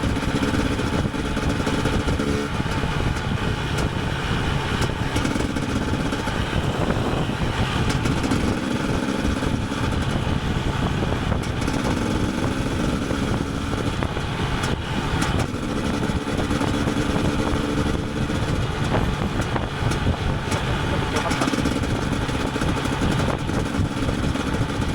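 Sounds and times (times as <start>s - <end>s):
two-stroke motorcycle engine revving: 0.0s - 24.9s.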